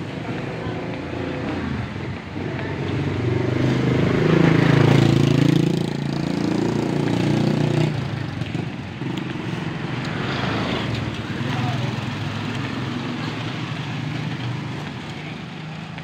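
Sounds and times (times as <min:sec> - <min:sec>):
motorcycle engine passing by: 0:01.2 - 0:15.0.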